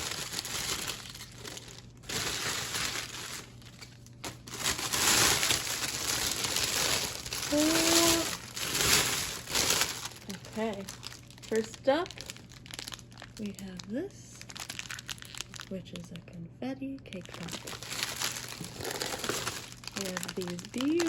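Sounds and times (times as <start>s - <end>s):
plastic wrapping crinkling: 0.0s - 16.1s, 16.9s - 21.0s.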